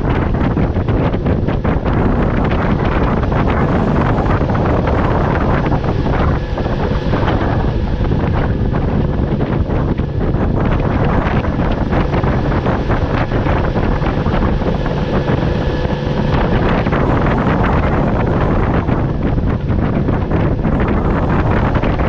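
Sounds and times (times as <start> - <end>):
outboard motor drone: 0.0 - 22.0
wind buffeting microphone: 0.0 - 22.0.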